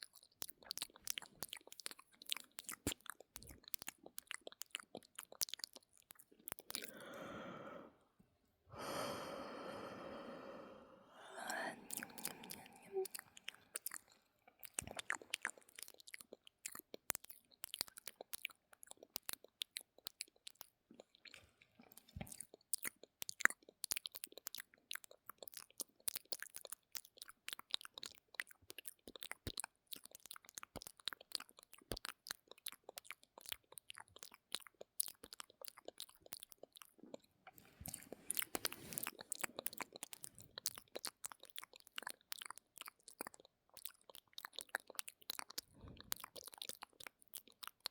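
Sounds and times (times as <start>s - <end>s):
wet mouth clicks and smacks: 0.0s - 7.2s, 11.3s - 47.9s.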